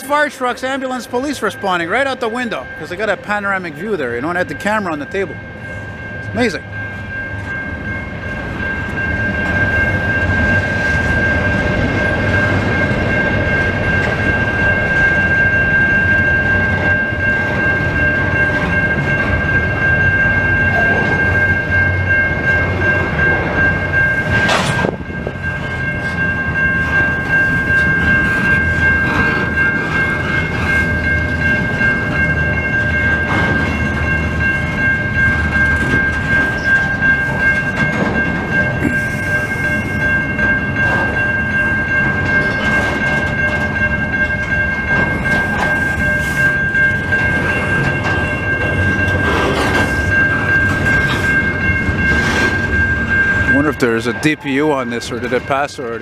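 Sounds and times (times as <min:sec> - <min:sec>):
crossing bell ringing: 0:00.0 - 0:56.0
freight train rumbling past: 0:00.0 - 0:56.0
wheels clickety-clack on rail joints: 0:07.0 - 0:56.0.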